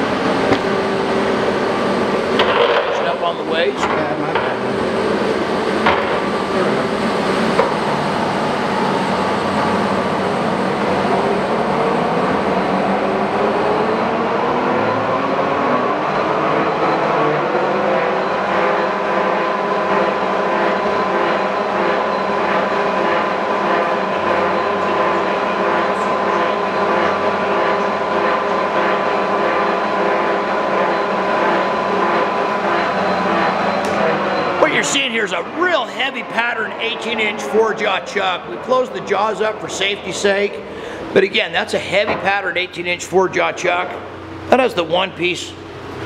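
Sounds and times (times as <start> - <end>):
lathe mechanical whir: 0.0 - 46.0
rising machine whine: 0.0 - 46.0.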